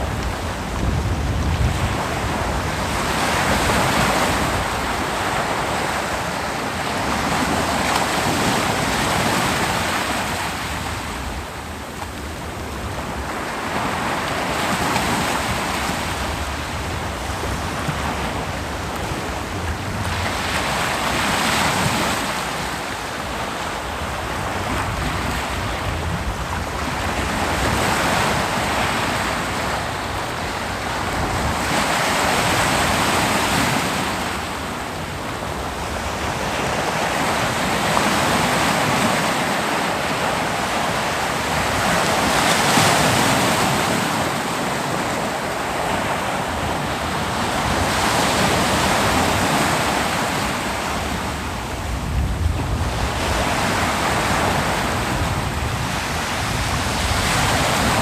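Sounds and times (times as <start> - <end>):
ocean waves breaking: 0.0 - 58.0
wind: 0.0 - 58.0.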